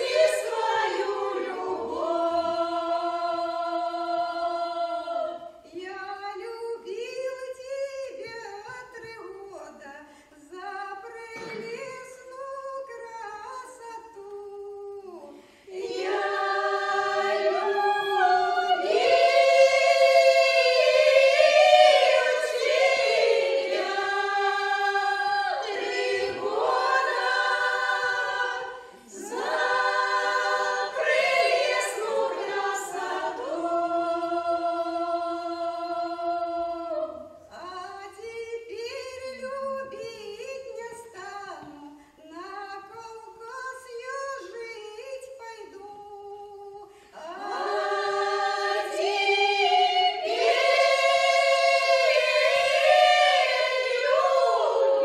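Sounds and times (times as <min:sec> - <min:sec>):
women singing unaccompanied: 0:00.0 - 0:55.0.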